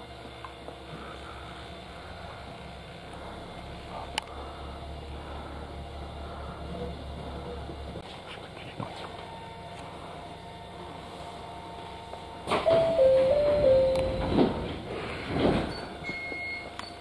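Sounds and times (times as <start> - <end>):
train equipment hum: 0.0 - 17.0.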